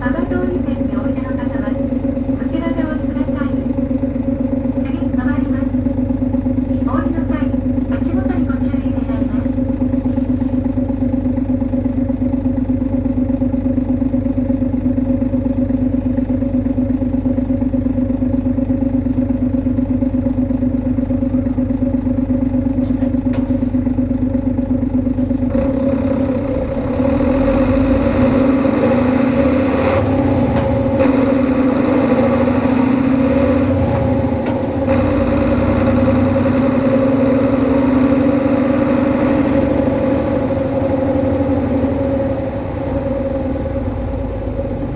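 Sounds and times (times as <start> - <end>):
bus engine humming drone: 0.0 - 44.9.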